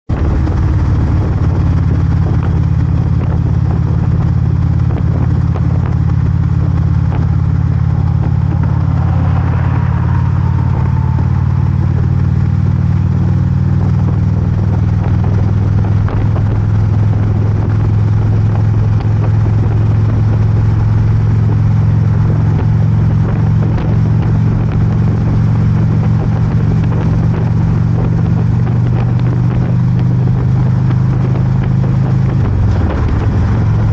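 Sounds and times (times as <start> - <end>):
motorcycle engine rumbling: 0.0 - 33.9.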